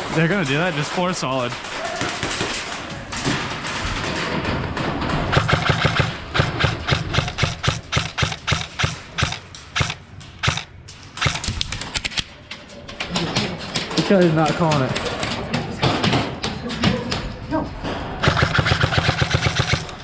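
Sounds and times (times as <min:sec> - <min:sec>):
sharp clicks and knocks: 0:00.6 - 0:20.0.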